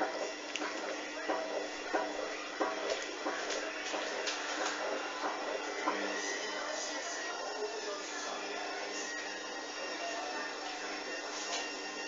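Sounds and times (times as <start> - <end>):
washing machine drum turning: 0.0 - 12.0.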